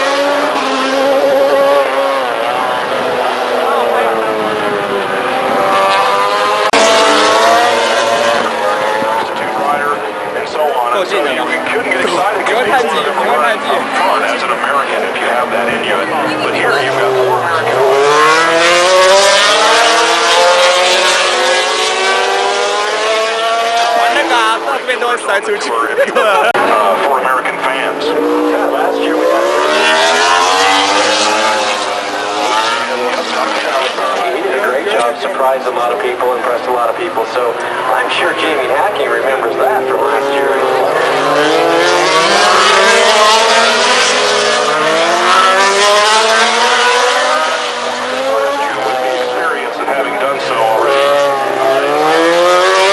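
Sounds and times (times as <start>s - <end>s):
motorcycle engine accelerating: 0.0s - 12.3s, 13.0s - 25.0s, 26.2s - 52.9s.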